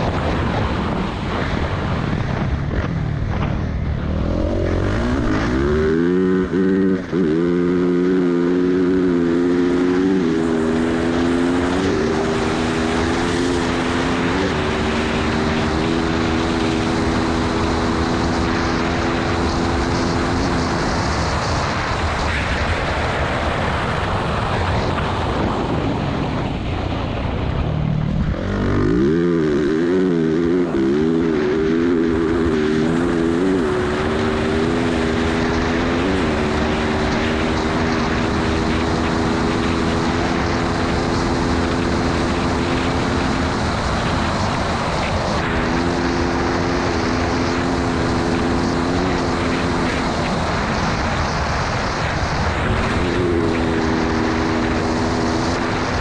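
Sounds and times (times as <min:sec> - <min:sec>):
motorcycle engine running hard: 0:00.0 - 0:56.0
wind on microphone: 0:00.0 - 0:56.0.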